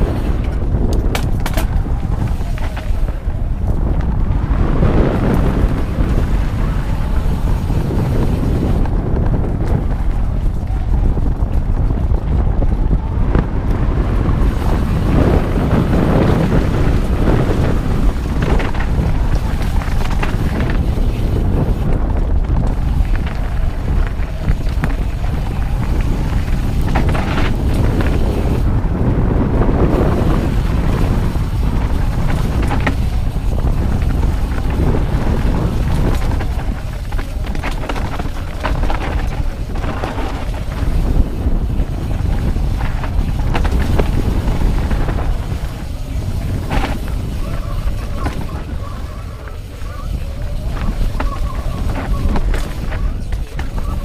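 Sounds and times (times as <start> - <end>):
bike rattling and knocking: 0.0 - 54.0
tyres rolling over dirt: 0.0 - 54.0
wind rumbling on microphone: 0.0 - 54.0.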